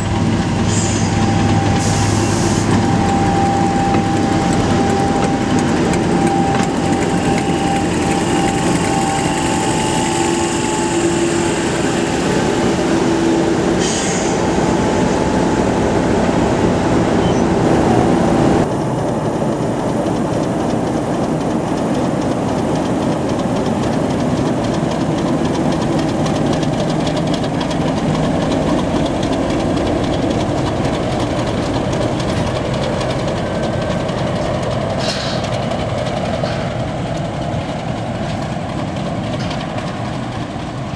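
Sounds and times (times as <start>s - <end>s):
diesel locomotive engine running: 0.0s - 40.9s.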